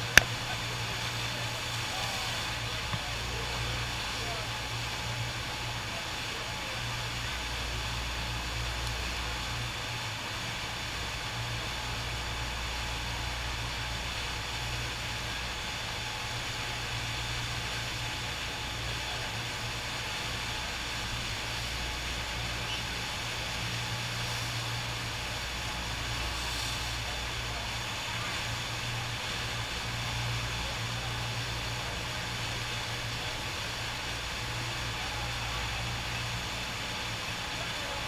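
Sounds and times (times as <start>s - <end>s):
constant low hum: 0.0s - 38.0s
rushing roar of pumped water: 0.0s - 38.0s.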